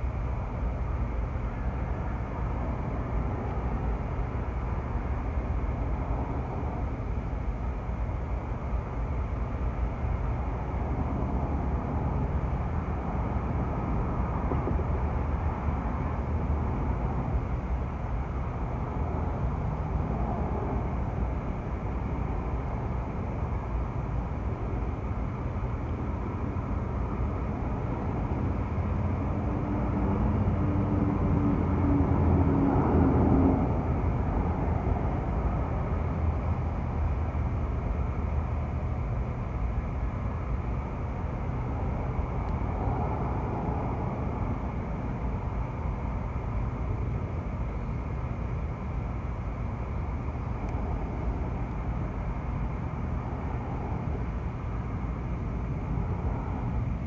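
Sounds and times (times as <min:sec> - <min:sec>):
passing train rumble: 0:00.0 - 0:57.0.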